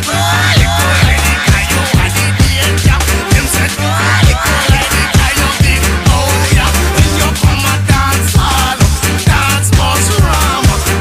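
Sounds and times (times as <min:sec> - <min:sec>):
electronic music with kick beat: 0:00.0 - 0:11.0
heavy bass line: 0:00.0 - 0:11.0.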